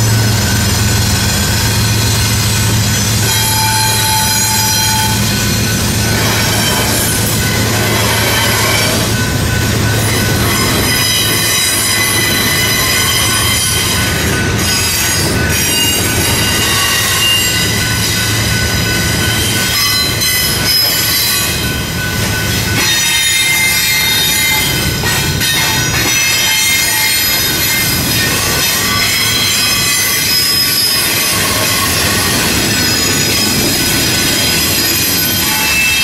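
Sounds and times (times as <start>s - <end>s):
wheels squealing: 0.0s - 21.8s, 22.7s - 36.0s
freight train wheels rumbling: 0.0s - 36.0s.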